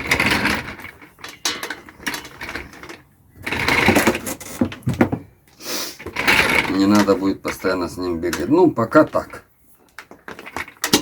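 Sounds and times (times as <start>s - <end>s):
mechanical clattering and rattling: 0.0s - 5.3s, 6.0s - 11.0s.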